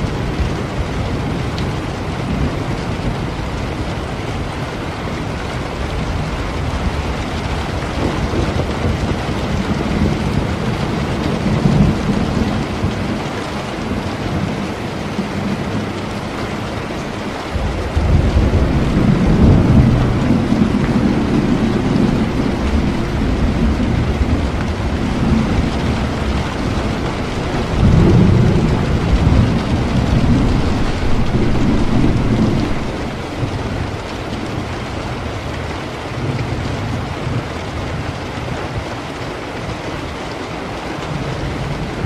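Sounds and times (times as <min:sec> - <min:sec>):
rolling thunder: 0:00.0 - 0:38.8
rain falling: 0:00.0 - 0:42.0.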